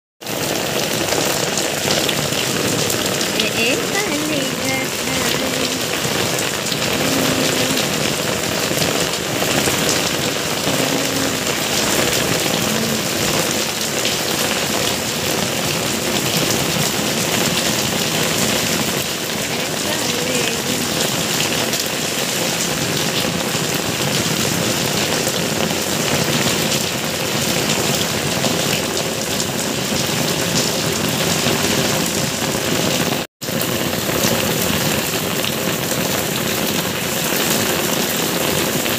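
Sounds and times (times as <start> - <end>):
rain splashing on concrete: 0.2 - 38.9.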